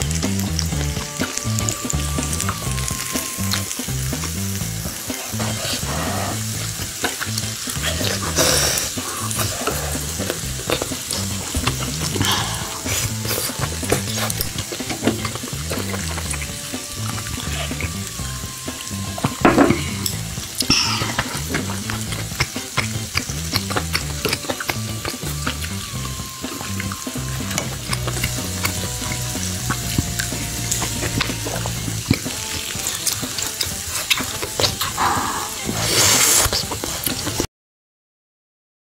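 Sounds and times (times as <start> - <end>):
background music: 0.0 - 37.4
beef sizzling on grill pan: 0.1 - 37.3.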